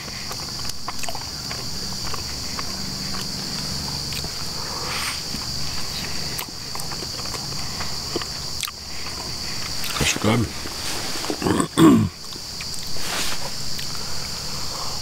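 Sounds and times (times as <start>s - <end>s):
insects droning: 0.0s - 15.0s
man chewing: 0.0s - 15.0s.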